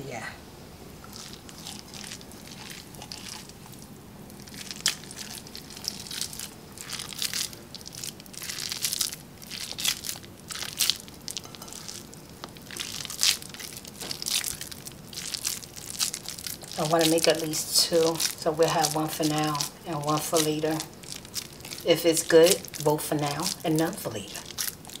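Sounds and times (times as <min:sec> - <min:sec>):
hands squishing crumbly mixture: 0:01.0 - 0:25.0.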